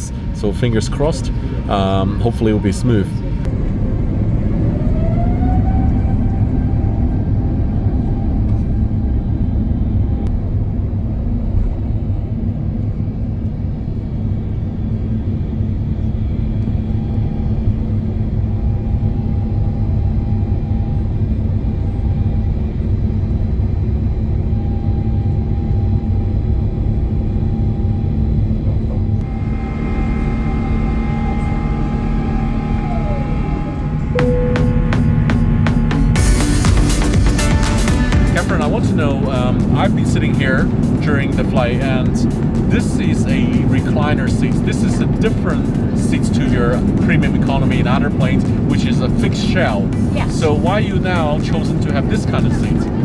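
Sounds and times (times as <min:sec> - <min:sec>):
jet engine roar: 0:00.0 - 0:53.0
jet engine whine: 0:00.0 - 0:53.0.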